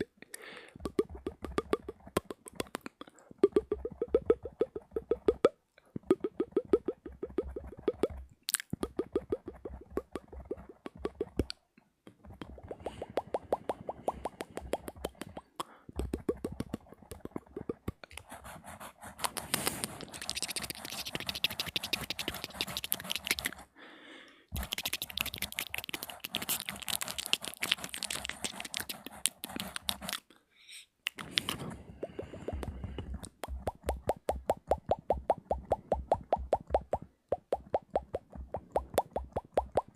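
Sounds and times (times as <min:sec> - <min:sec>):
lips and tongue clicking: 0:00.0 - 0:18.3, 0:19.2 - 0:23.7, 0:24.6 - 0:30.3, 0:31.0 - 0:39.9.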